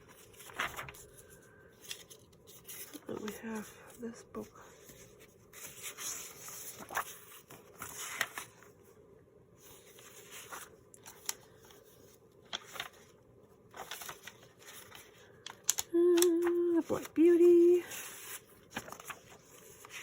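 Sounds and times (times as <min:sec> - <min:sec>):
paper rustling and sliding: 0:00.0 - 0:03.9, 0:04.6 - 0:08.9, 0:09.6 - 0:20.0.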